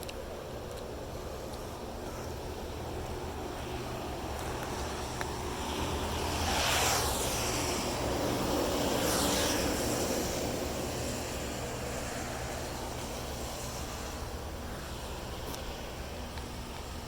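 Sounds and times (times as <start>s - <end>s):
low rumble of traffic: 0.0s - 17.0s
vehicles passing by: 0.0s - 17.0s
wind: 0.0s - 17.0s.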